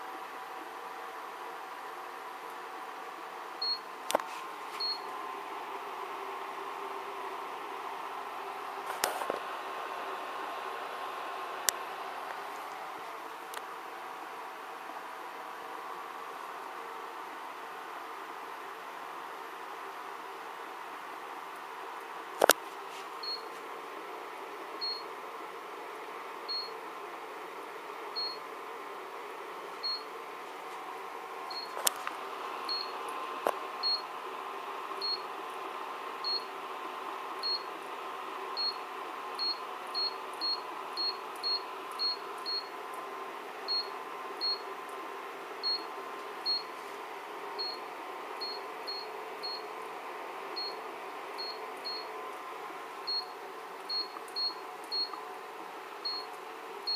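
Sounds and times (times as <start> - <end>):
steady hum: 0.0 - 56.9.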